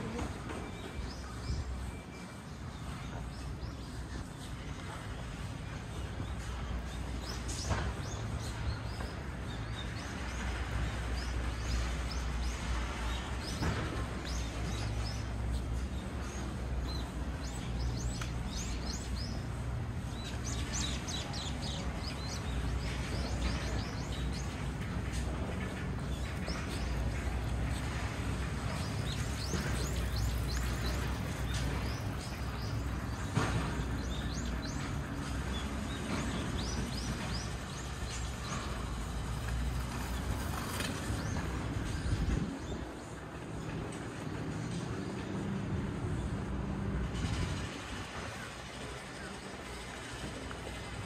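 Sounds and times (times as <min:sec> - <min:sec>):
small birds chirping: 0:00.0 - 0:45.4
traffic rumble: 0:00.0 - 0:51.0.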